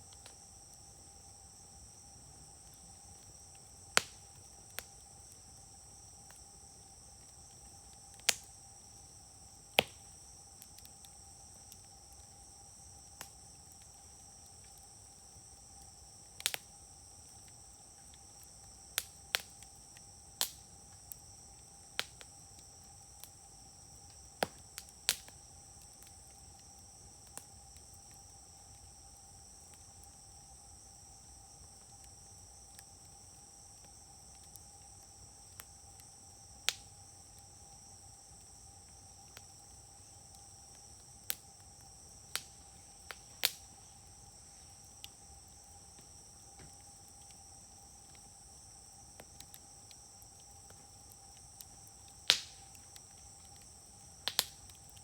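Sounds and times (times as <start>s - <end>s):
campfire crackling and popping: 0.0s - 55.0s
high-pitched insect chorus: 0.0s - 55.0s.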